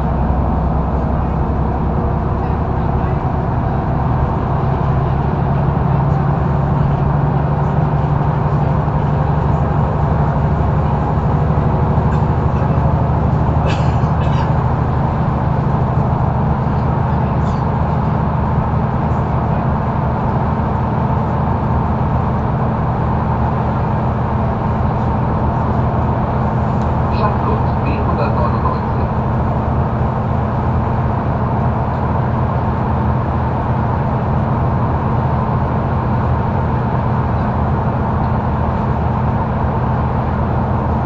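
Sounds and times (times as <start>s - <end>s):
bus diesel engine drone: 0.0s - 41.0s
road noise: 0.0s - 41.0s.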